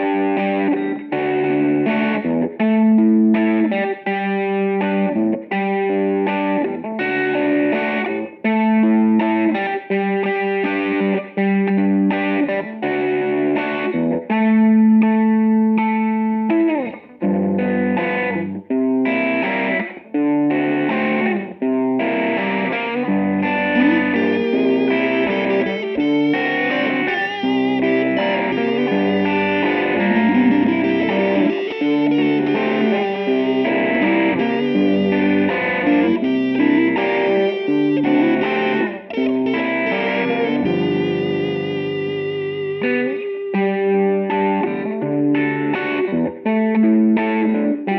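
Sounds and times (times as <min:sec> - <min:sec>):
rock electric guitar: 0:00.0 - 0:47.9.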